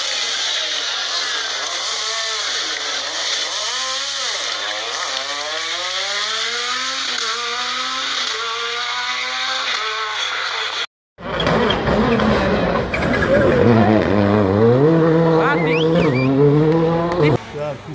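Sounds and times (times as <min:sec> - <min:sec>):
rally car engine revving hard: 0:00.0 - 0:17.4.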